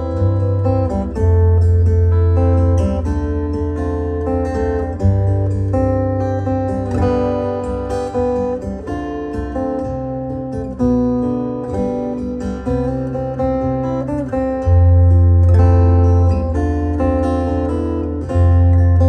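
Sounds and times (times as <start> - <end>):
amplified acoustic guitar: 0.0 - 19.0.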